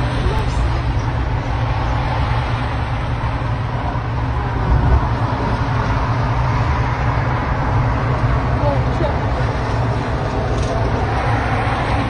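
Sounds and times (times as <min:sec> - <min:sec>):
road noise inside moving car: 0:00.0 - 0:12.0
wind buffeting: 0:00.0 - 0:12.0.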